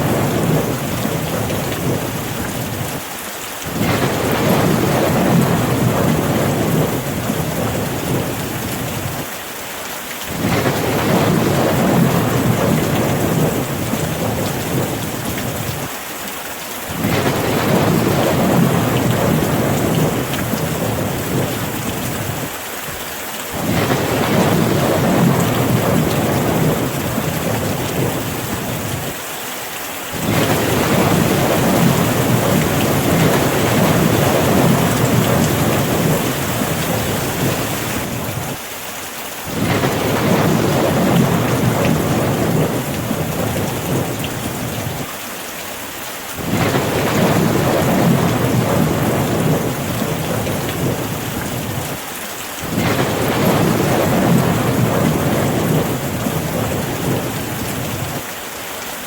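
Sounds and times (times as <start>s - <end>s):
thunder rumbling: 0.0s - 3.0s, 3.7s - 9.3s, 10.3s - 15.9s, 16.9s - 22.6s, 23.5s - 29.2s, 30.1s - 38.6s, 39.5s - 45.1s, 46.4s - 52.0s, 52.6s - 58.2s
steady rain: 0.0s - 59.0s.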